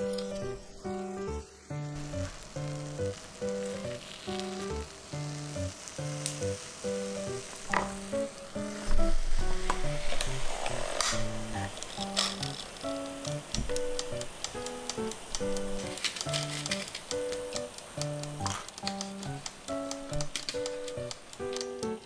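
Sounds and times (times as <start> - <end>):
background music simple melody: 0.0 - 22.0
croissant sizzling in waffle maker: 0.0 - 22.0.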